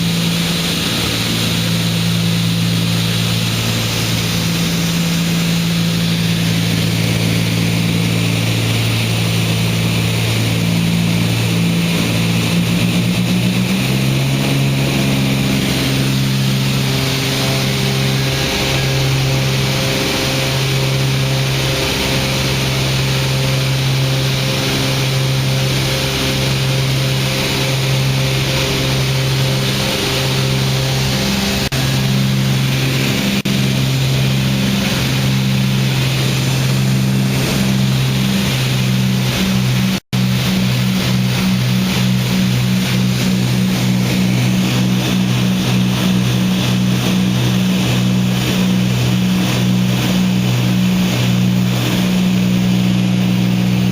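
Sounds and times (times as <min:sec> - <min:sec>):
propeller engines droning: 0:00.0 - 0:53.9.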